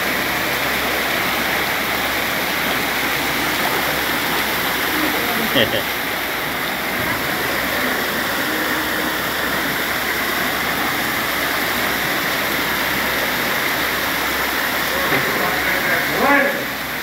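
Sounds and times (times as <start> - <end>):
heavy rain pouring: 0.0 - 17.0
runoff water rushing on pavement: 0.0 - 17.0.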